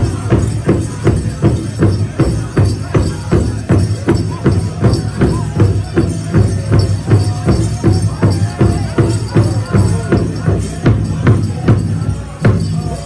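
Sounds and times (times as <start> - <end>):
big drum beating: 0.0 - 13.0
group of voices singing: 0.0 - 13.0.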